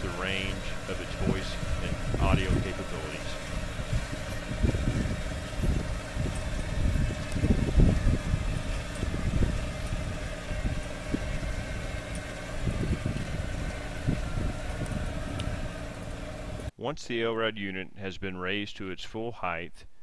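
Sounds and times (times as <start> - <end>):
low rumbles: 0.0 - 18.9
generator and winch humming: 0.0 - 20.0.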